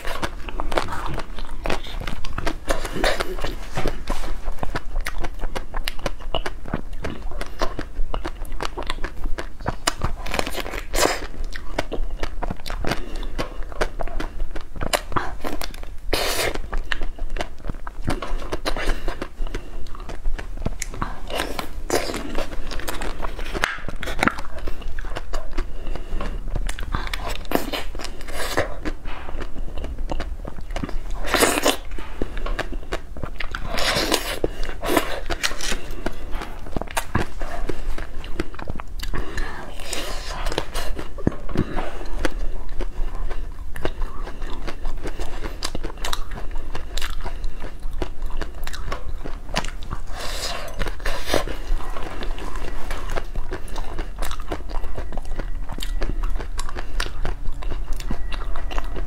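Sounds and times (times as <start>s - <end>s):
biting and chewing: 0.0s - 59.0s.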